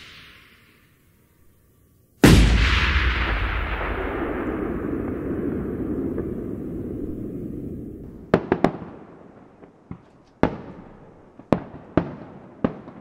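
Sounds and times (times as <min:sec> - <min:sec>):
fireworks sharp bangs: 0:00.0 - 0:01.2, 0:02.2 - 0:13.0
low fireworks rumble: 0:02.1 - 0:13.0.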